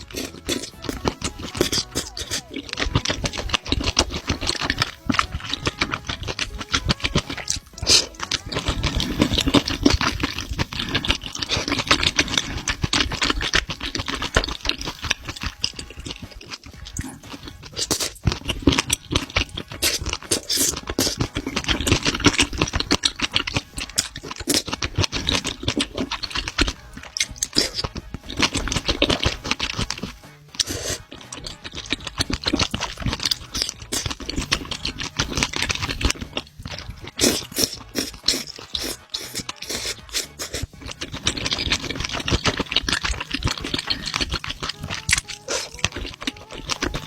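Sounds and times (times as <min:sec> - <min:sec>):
wet chewing sounds: 0:00.0 - 0:47.0.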